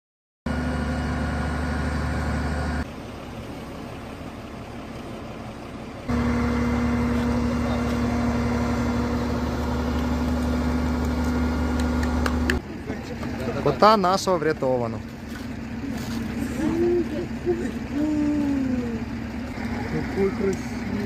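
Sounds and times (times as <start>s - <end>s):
fire engine running: 0.5s - 21.0s.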